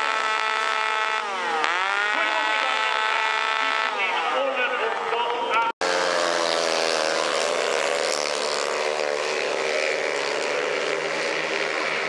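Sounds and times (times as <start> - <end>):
motorcycle engines racing: 0.0 - 12.0.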